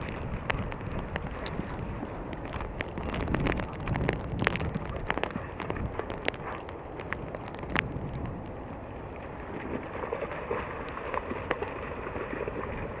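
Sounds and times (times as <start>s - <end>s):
raindrops tapping camera: 0.0s - 13.0s
wind and rain hiss: 0.0s - 13.0s.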